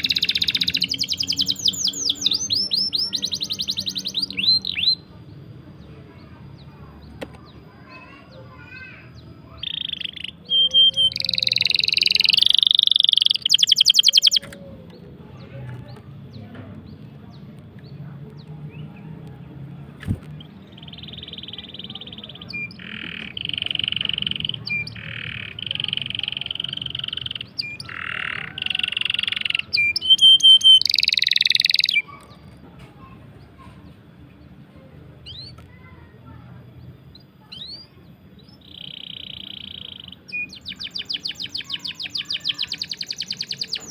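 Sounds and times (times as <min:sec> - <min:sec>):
songbird chirping and trilling: 0:00.0 - 0:43.9.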